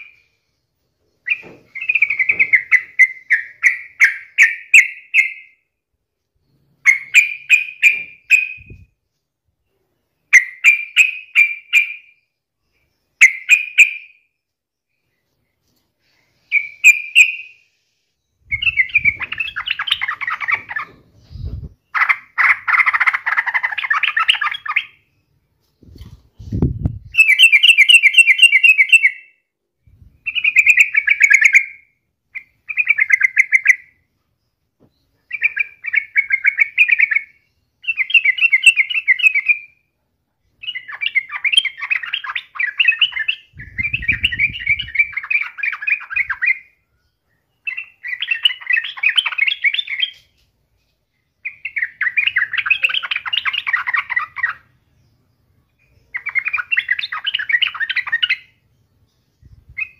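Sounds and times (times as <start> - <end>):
bird singing warbling phrases: 0.0 - 5.7, 6.4 - 9.0, 9.6 - 15.4, 16.0 - 59.9.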